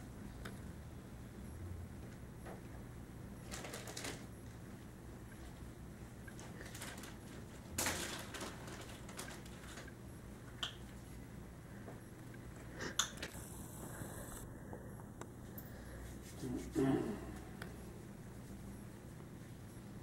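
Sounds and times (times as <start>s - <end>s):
faint steady low hum: 0.0s - 20.0s.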